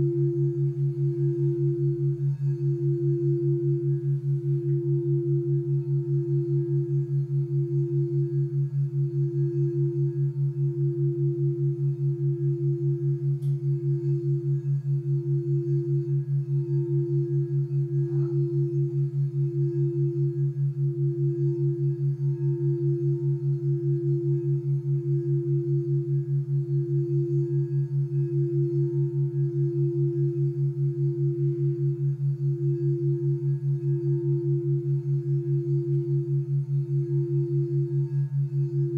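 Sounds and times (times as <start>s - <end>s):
crystal singing bowl ringing: 0.0s - 38.9s
low pulsing hum: 0.0s - 38.9s.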